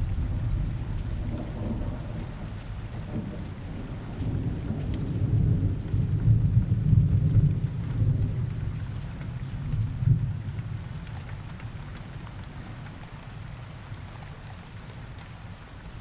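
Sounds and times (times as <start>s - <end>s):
low rumble of thunder: 0.0s - 12.9s
steady rain: 0.0s - 16.0s.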